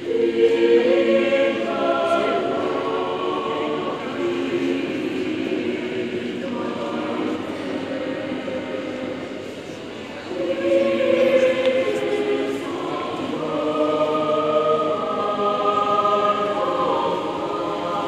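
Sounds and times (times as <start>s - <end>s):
choir singing long held notes: 0.0s - 18.0s.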